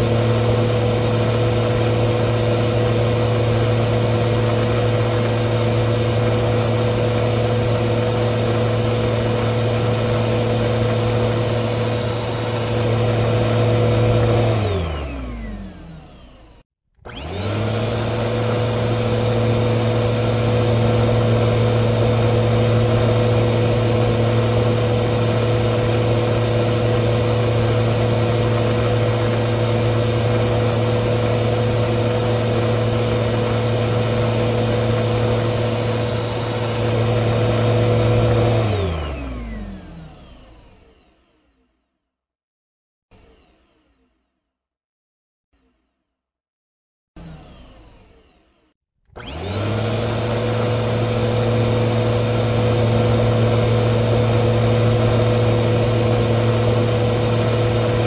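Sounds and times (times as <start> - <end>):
vacuum cleaner motor whining: 0.0 - 41.0, 47.2 - 48.5, 49.1 - 58.0.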